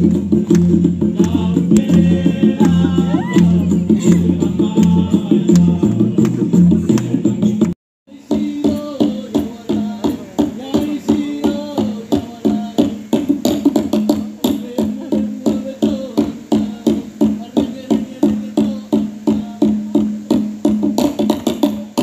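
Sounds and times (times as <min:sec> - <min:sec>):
string band dance music: 0:00.0 - 0:22.0.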